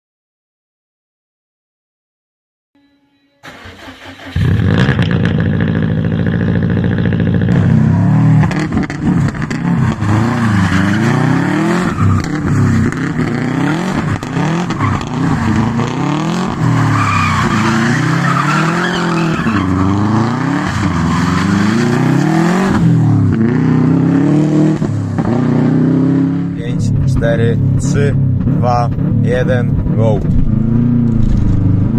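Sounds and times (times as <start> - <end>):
rally car engine revving: 3.5 - 31.9.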